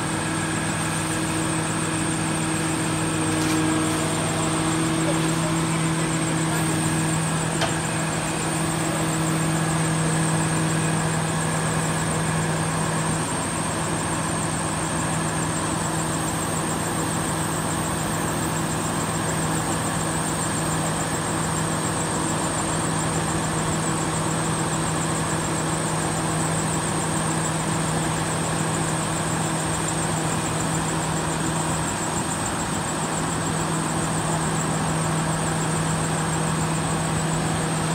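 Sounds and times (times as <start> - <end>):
large engine humming steadily: 0.0 - 37.9.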